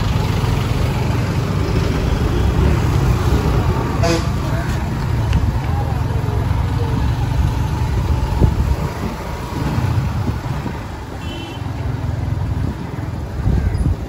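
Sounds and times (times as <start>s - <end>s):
vehicle rumbling: 0.0s - 14.0s.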